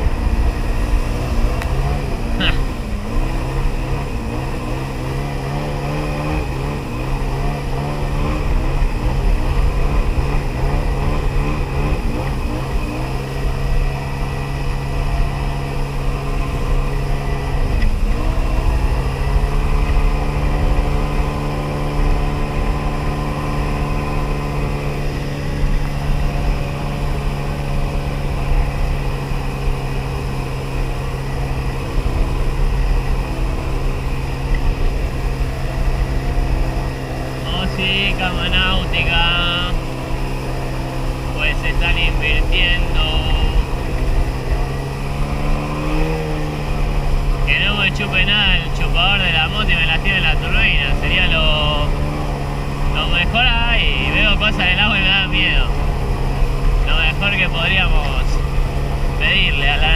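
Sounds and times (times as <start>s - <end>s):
personal watercraft engine running: 0.0s - 59.9s.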